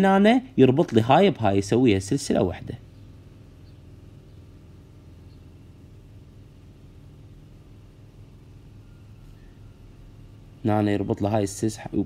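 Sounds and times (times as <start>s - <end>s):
low hum of room tone: 0.0s - 12.0s.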